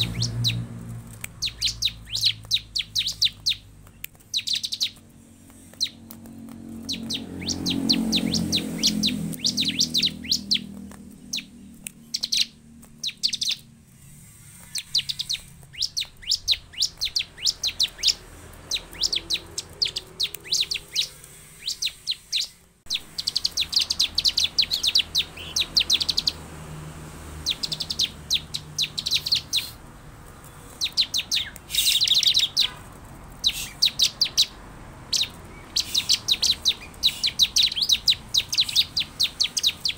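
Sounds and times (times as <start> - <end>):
bird calling high chips: 0.0 - 39.9.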